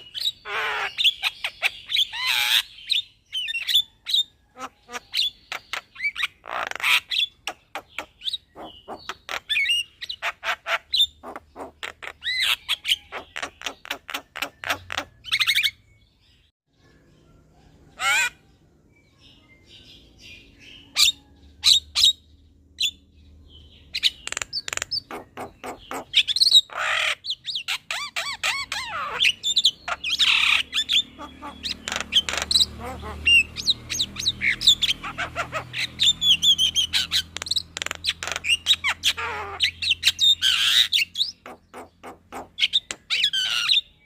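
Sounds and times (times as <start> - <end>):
bird chattering song: 0.0 - 44.0.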